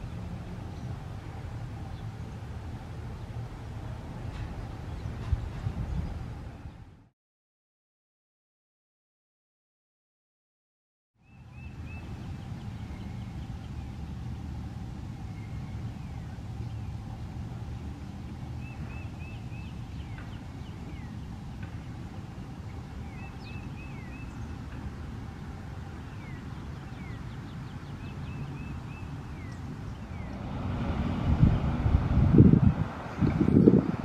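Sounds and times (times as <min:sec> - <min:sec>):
low outdoor rumble: 0:00.0 - 0:07.1, 0:11.2 - 0:34.0
songbirds chirping: 0:00.0 - 0:07.1, 0:11.2 - 0:32.1, 0:32.8 - 0:34.0.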